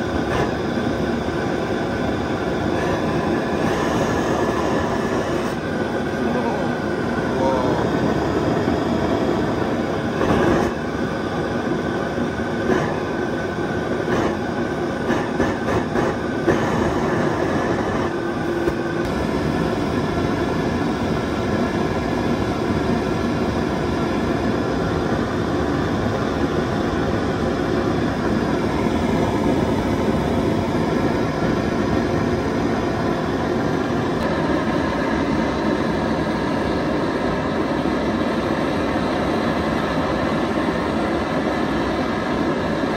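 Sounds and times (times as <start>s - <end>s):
homemade jet engine roaring: 0.0s - 42.9s.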